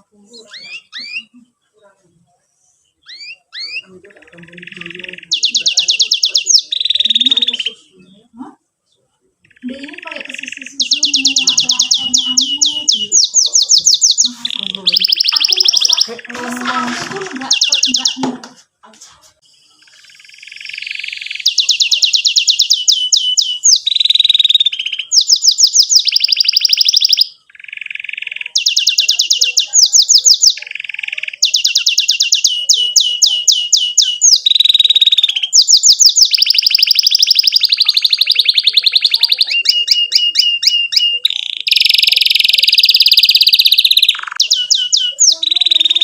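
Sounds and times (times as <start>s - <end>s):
canary singing chirps and trills: 0.0s - 46.0s.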